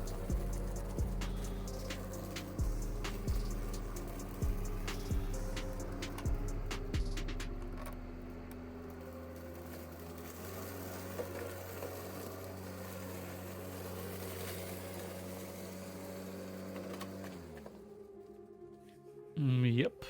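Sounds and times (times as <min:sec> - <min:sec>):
electric mower motor hum: 0:00.0 - 0:18.7.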